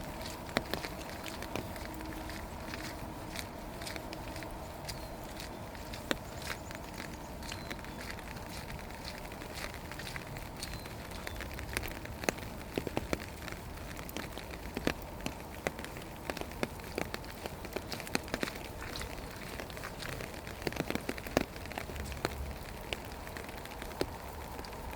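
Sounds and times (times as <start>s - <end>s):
drops ticking and pattering: 0.0s - 24.9s
rain falling: 0.0s - 24.9s.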